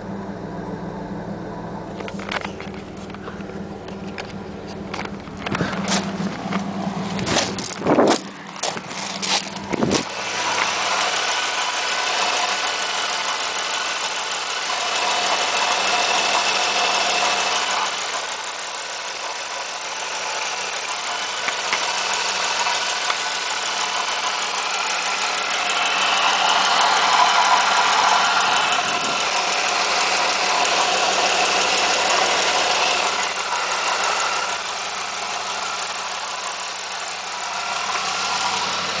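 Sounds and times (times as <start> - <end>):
car engine idling: 0.0 - 39.0
steady engine ticking: 0.0 - 39.0.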